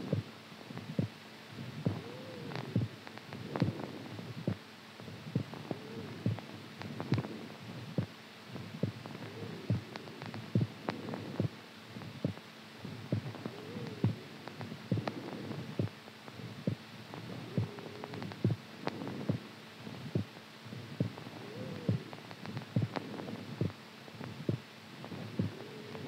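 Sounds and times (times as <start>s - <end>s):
heartbeat-like thumping: 0.1s - 1.1s, 1.8s - 4.6s, 5.3s - 5.6s, 6.2s - 7.3s, 7.9s - 12.4s, 13.0s - 16.0s, 16.6s - 25.6s.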